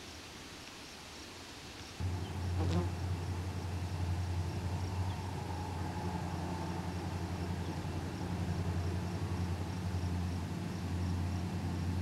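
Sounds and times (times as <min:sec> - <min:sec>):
engine idling: 0:02.0 - 0:12.0.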